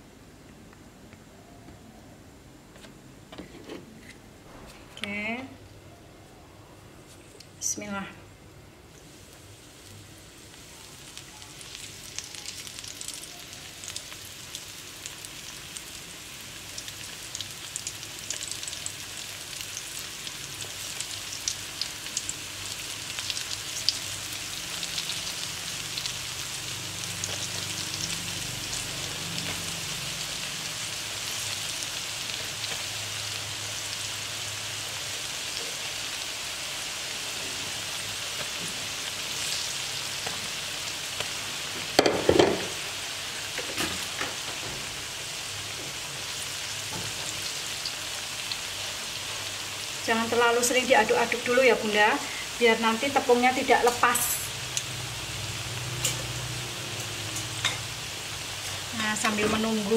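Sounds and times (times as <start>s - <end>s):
food deep-frying sizzle: 8.8s - 59.9s.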